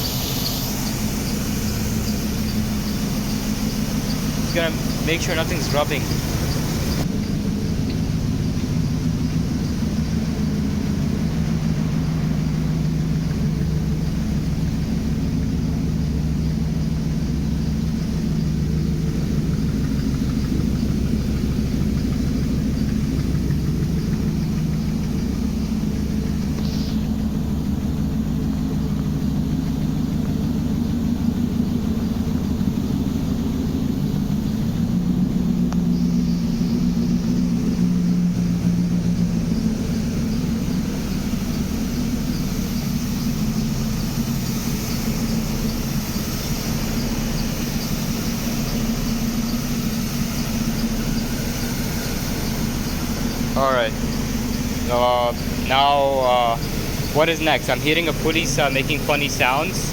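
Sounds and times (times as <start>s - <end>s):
car engine idling with misfire: 0.0s - 59.9s.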